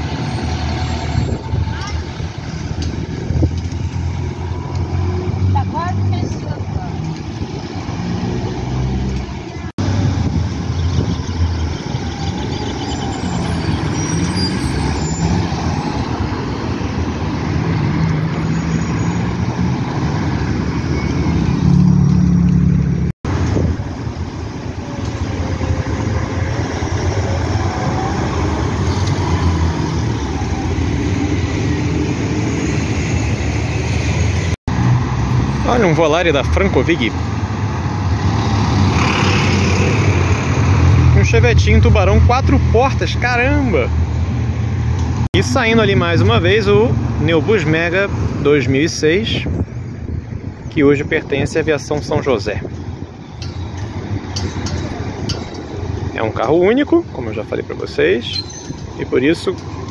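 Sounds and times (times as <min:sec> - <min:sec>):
bus diesel engines: 0:00.0 - 0:59.9
traffic rumble: 0:00.0 - 0:59.9.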